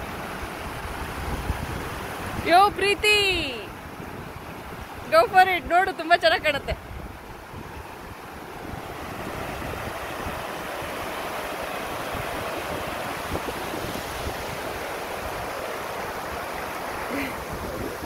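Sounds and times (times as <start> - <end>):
waterfall rushing: 0.0 - 18.0
wind buffeting microphone: 0.2 - 18.0.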